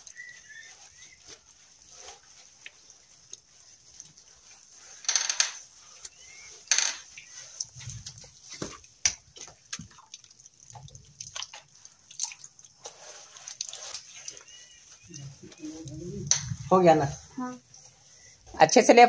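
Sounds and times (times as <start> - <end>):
wet rubbing and scraping on wall: 0.0 - 18.5.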